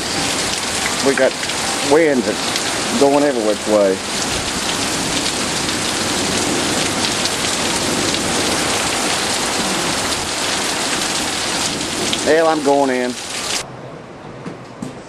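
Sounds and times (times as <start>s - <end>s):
heavy rain pouring: 0.0s - 13.7s
strong storm winds: 0.0s - 15.0s.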